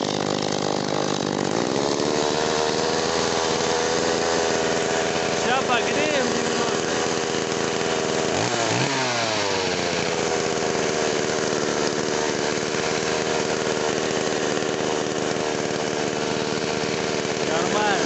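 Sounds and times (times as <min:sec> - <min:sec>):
two-stroke chainsaw running: 0:00.0 - 0:18.0.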